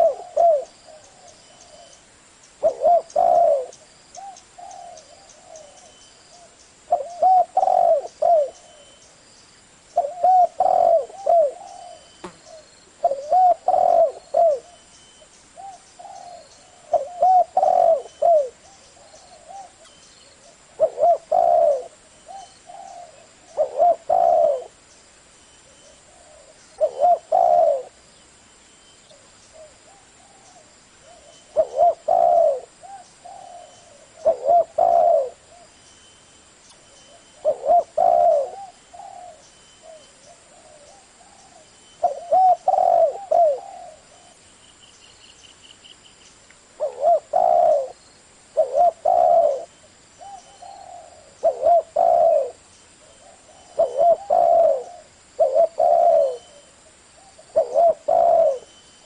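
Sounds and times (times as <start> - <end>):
dove cooing: 0.0 - 2.0, 2.6 - 9.0, 10.0 - 14.9, 15.6 - 24.8, 25.6 - 28.0, 29.1 - 35.8, 37.1 - 44.4, 46.8 - 48.0, 48.6 - 58.8
small birds chirping: 0.0 - 59.0.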